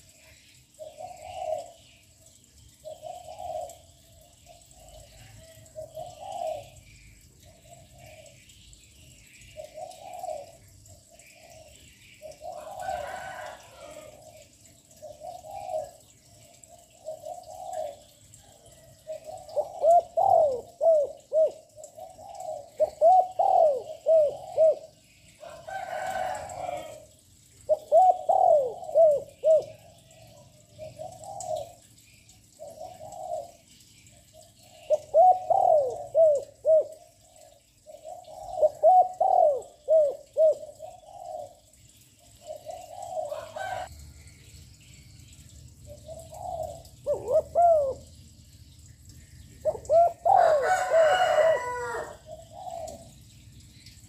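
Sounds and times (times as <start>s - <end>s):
dove cooing: 0.0s - 6.8s, 9.6s - 31.9s, 32.5s - 33.6s, 34.3s - 43.9s, 45.9s - 48.5s, 49.6s - 53.2s.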